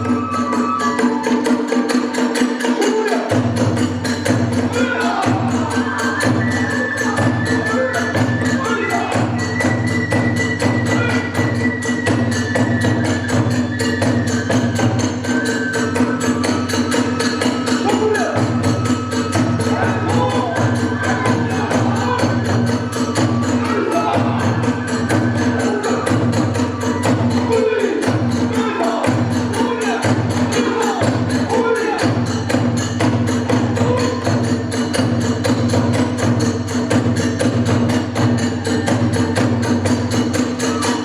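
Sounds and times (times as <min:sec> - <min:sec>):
bamboo flute melody: 0:00.0 - 0:41.0
drums beaten rapidly: 0:00.0 - 0:41.0
hand cymbals: 0:00.0 - 0:41.0.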